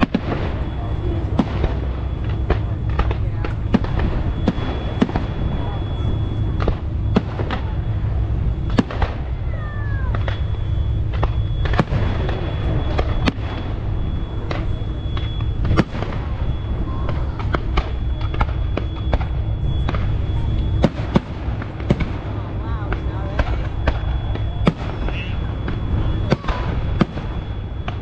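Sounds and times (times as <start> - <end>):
fireworks bangs and cracks: 0.0 - 28.0
steady low rumble: 0.0 - 28.0.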